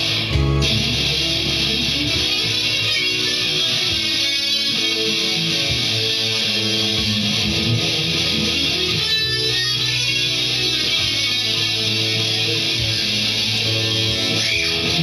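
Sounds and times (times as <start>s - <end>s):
backing music: 0.0s - 15.0s
electric guitar melody: 0.0s - 15.0s.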